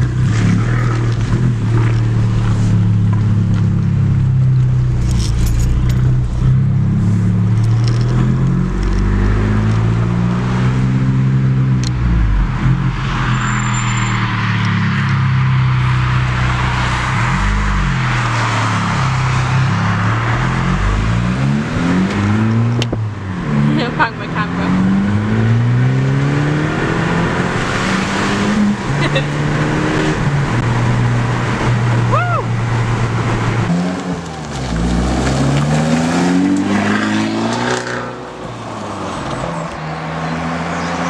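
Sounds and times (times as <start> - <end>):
car engine accelerating through gears: 0.0 - 13.3, 14.2 - 41.0
road and wind rush: 0.0 - 41.0.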